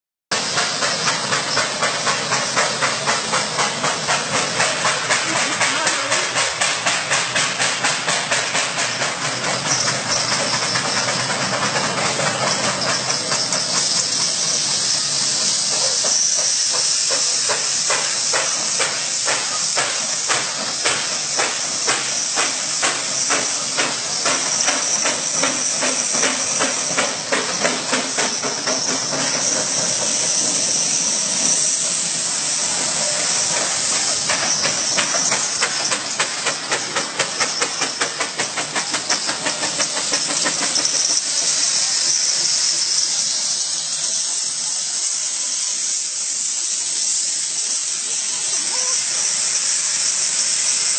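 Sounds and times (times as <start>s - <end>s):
high hiss of steam: 0.3s - 50.9s
steam engine chuffing: 0.3s - 50.9s.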